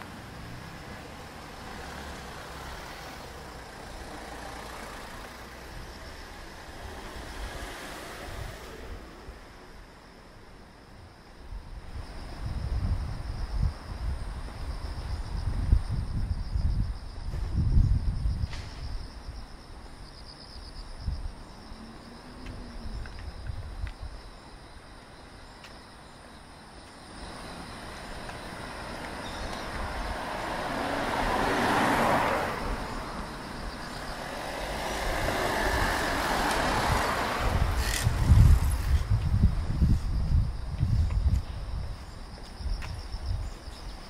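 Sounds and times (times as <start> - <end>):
cars passing on asphalt: 0.0 - 44.0.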